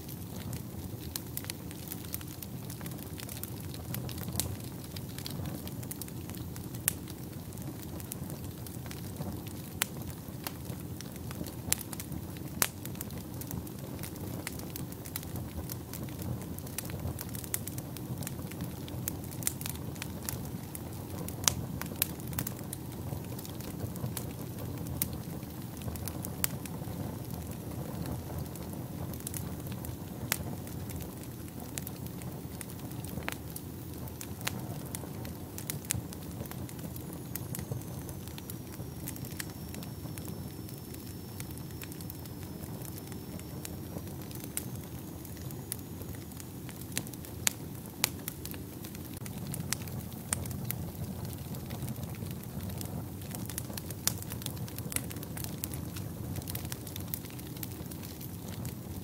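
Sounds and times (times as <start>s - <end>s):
fire popping and snapping: 0.0s - 59.0s
fire flames rushing: 0.1s - 59.0s.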